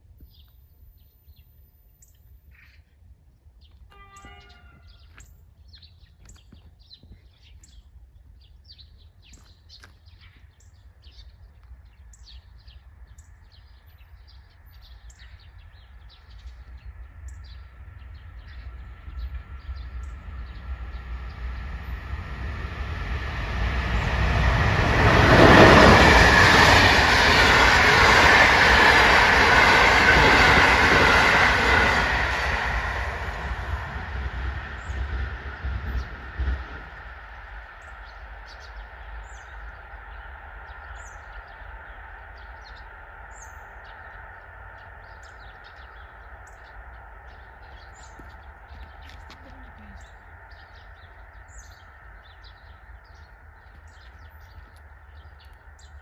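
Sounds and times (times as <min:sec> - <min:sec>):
train passing: 0:10.7 - 0:56.0.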